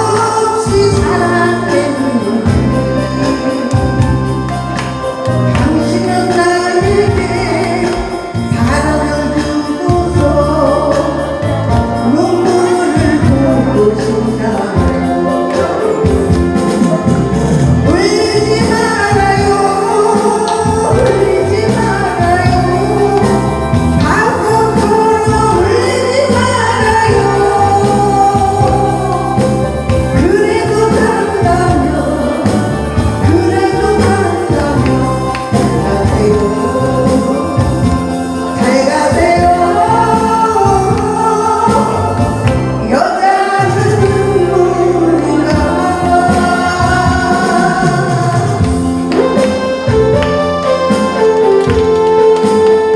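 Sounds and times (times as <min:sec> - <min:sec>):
backing track with steady beat: 0:00.0 - 0:52.9
woman singing with vibrato: 0:00.0 - 0:52.9.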